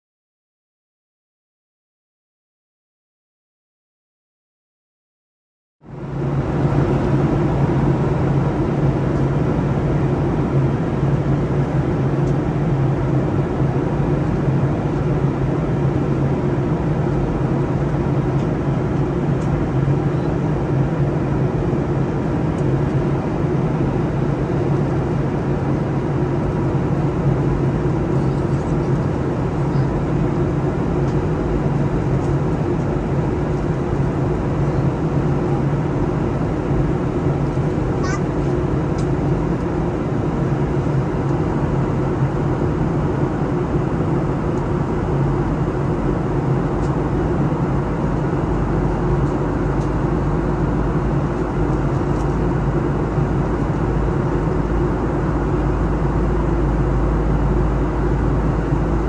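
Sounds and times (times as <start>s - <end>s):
low hum: 5.9s - 59.0s
vehicle drone: 5.9s - 59.0s.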